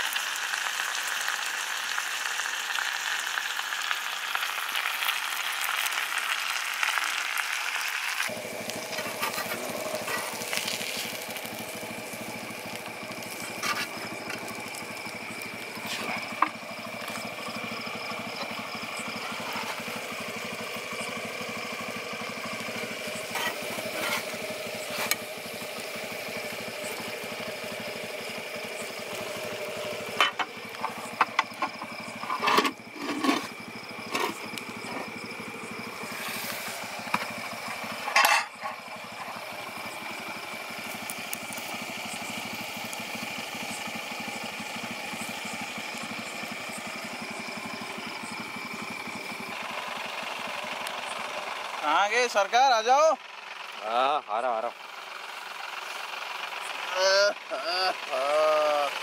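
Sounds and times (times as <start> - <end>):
fish sizzling on griddle: 0.0 - 59.0.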